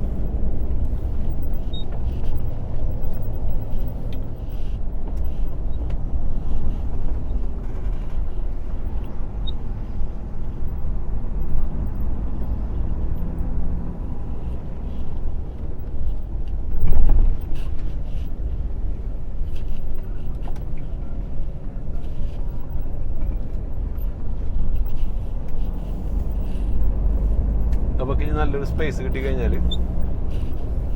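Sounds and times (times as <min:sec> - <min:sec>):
lorry engine and road rumble: 0:00.0 - 0:30.9.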